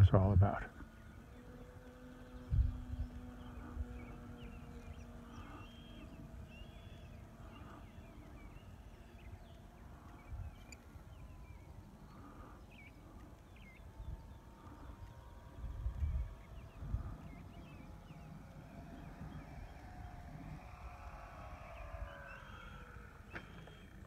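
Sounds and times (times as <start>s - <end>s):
birds chirping: 0.0s - 24.0s
distant model plane motor hum: 0.0s - 24.0s
wind buffeting microphone: 0.0s - 24.0s.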